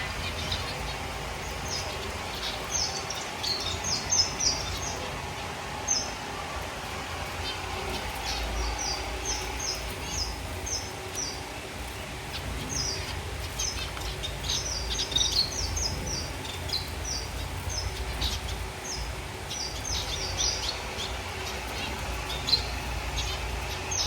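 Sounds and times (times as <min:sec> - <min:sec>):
finches chirping: 0:00.0 - 0:24.0
low background hum: 0:00.0 - 0:24.0.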